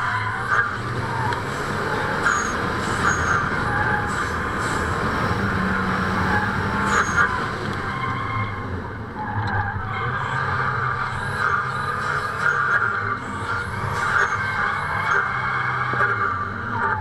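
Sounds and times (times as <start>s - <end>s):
car engine running: 0.0s - 17.0s
tyres skidding: 0.0s - 17.0s.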